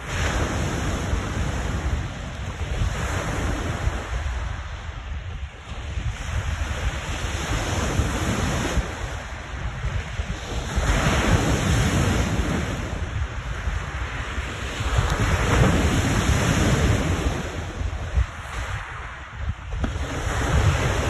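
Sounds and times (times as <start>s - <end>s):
waves crashing on shore: 0.0s - 21.0s
wind buffeting the microphone: 0.0s - 21.0s.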